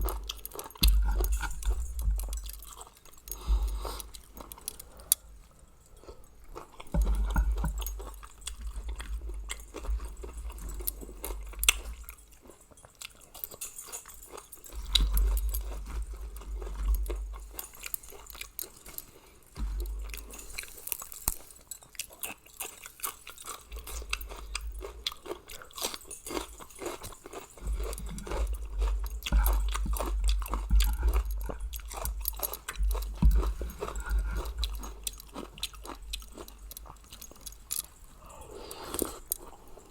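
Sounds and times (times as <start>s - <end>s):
close chewing of food: 0.0s - 39.9s.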